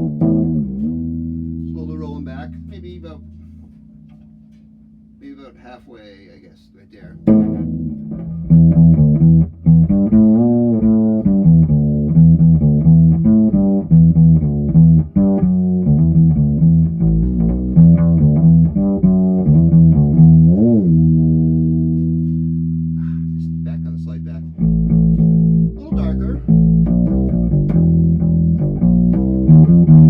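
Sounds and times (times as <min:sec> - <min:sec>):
fretless bass plucked notes: 0:00.0 - 0:06.4, 0:07.0 - 0:30.0.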